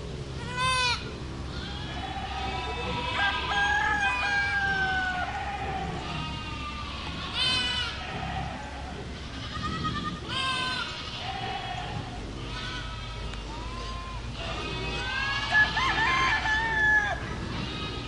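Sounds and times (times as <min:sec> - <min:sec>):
goats bleating: 0:00.4 - 0:18.0.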